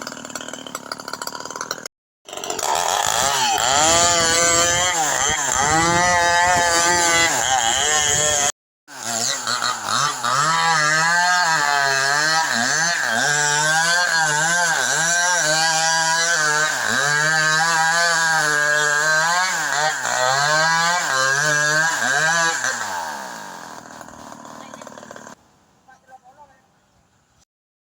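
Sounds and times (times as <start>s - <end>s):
chainsaw cutting wood: 0.0s - 25.4s.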